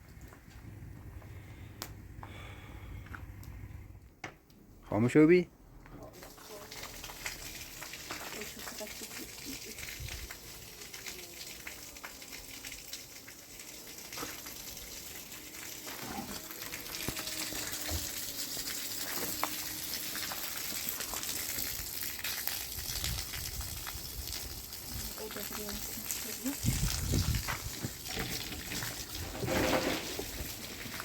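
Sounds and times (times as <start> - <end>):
water gushing and splashing: 6.2 - 31.0.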